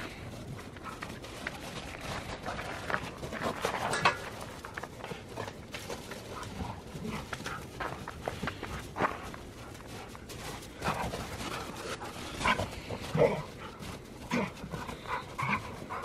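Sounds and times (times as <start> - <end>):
dog paws crunching in snow: 0.0 - 16.0.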